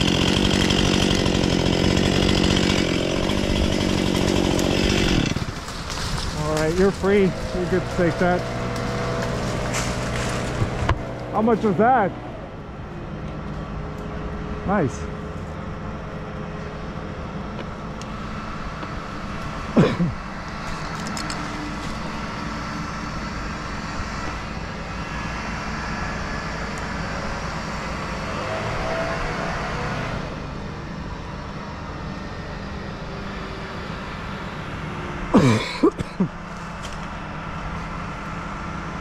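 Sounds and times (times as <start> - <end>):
crane engine running: 0.0 - 39.0.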